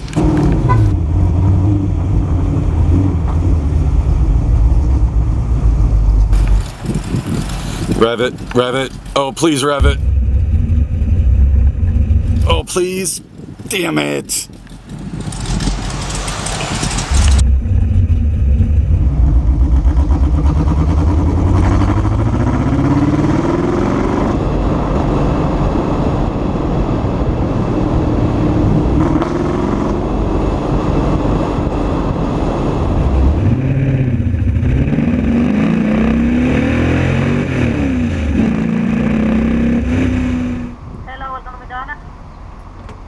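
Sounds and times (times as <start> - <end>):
car engine revving: 0.0 - 12.8, 14.9 - 40.8.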